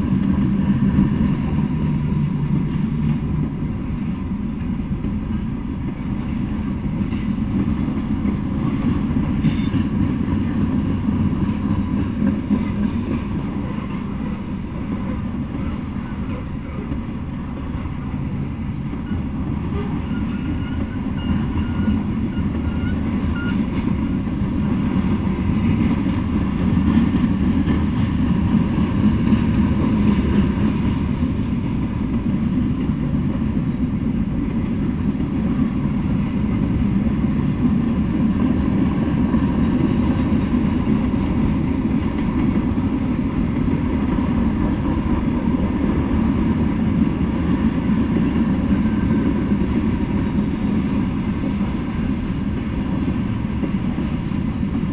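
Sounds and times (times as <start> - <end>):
freight cars rumbling on rails: 0.0 - 54.9.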